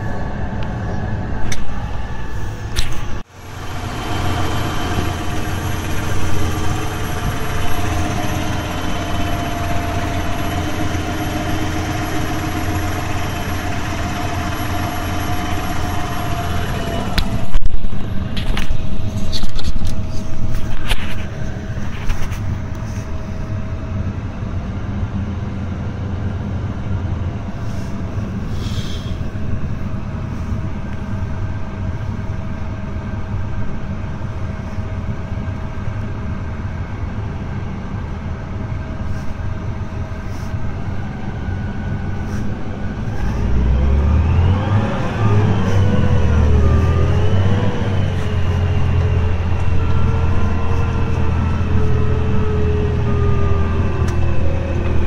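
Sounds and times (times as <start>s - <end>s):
steady whine: 0.0s - 55.0s
tractor diesel engine under load: 0.0s - 55.0s.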